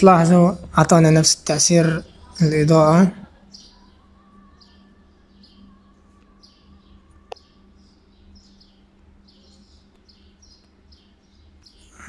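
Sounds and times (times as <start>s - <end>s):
faint bird chirping: 0.0s - 12.0s
low steady hum: 0.0s - 12.0s.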